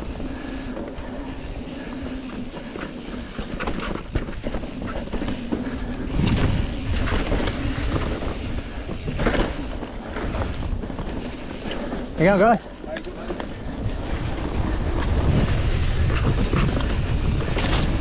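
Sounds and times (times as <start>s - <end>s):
bike chain and frame rattling: 0.0s - 18.0s
bike tyres rolling on dirt: 0.0s - 18.0s.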